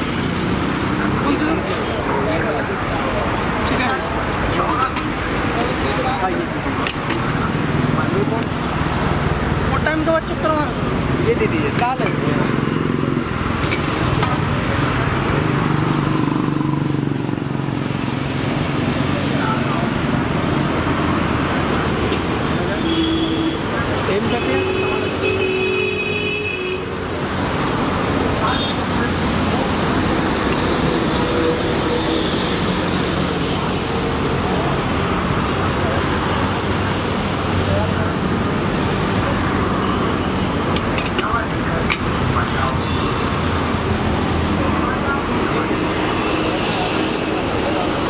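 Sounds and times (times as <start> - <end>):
passing traffic rush: 0.0 - 48.0
street noise: 0.0 - 48.0.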